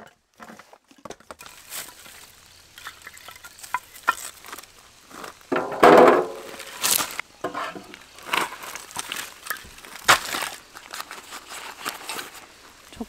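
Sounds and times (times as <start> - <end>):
crinkling: 0.0 - 13.0.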